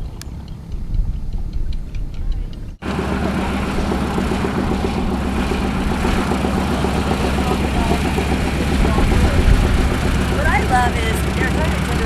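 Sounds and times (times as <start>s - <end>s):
engine throbbing: 0.6s - 12.0s.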